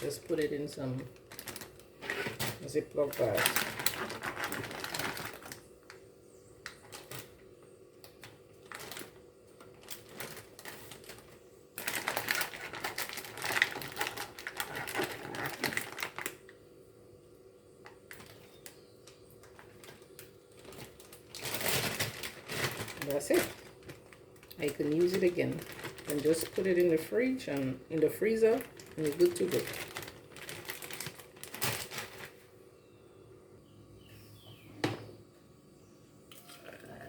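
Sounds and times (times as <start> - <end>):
plastic bags crinkling: 0.0 - 16.6, 17.9 - 32.6.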